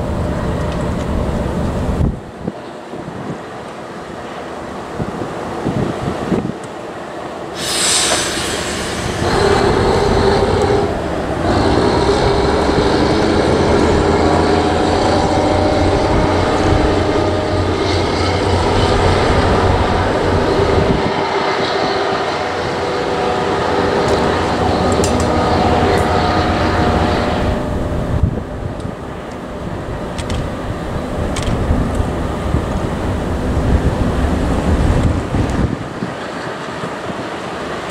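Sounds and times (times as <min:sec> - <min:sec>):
freight train rumbling past: 0:00.0 - 0:37.9
train wheels whining: 0:02.6 - 0:37.9.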